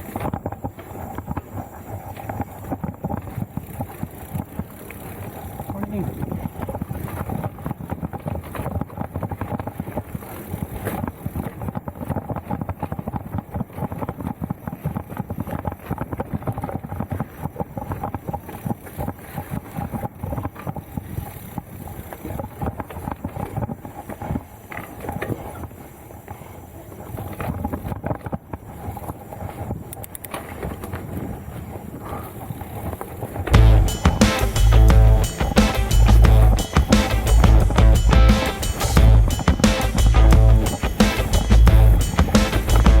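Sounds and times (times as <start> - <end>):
mountain bike rattling over bumps: 0.0 - 43.0.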